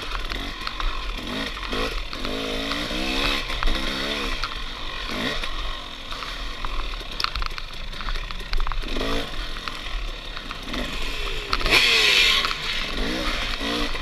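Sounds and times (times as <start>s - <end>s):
dirt bike engine revving: 0.0s - 14.0s
sharp rattling clicks: 0.0s - 14.0s.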